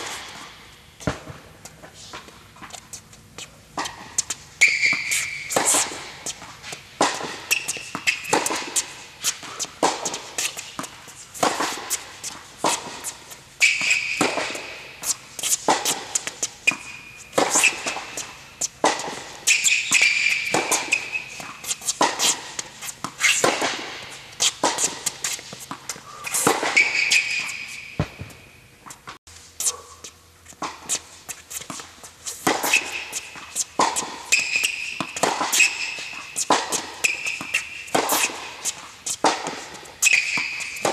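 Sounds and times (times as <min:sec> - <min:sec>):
tennis ball bounces: 0:00.0 - 0:29.2, 0:30.5 - 0:40.9
sneaker squeaking on court: 0:00.0 - 0:40.9
tennis racket strikes: 0:00.0 - 0:40.9.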